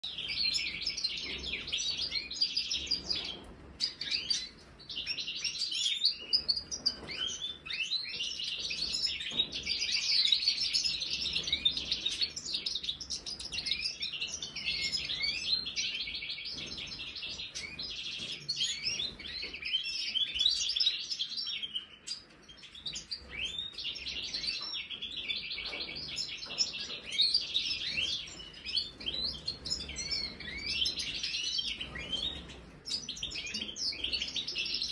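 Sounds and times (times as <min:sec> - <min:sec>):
goldfinches twittering and chirping: 0:00.1 - 0:34.9.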